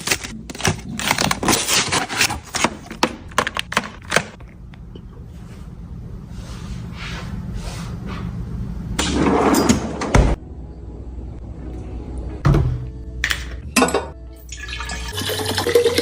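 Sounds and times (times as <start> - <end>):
refrigerator low hum: 0.0 - 14.9.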